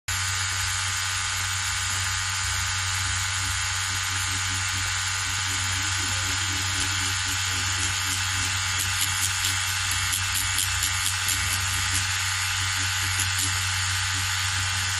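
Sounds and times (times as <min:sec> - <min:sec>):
tattoo machine buzzing: 0:00.1 - 0:14.9.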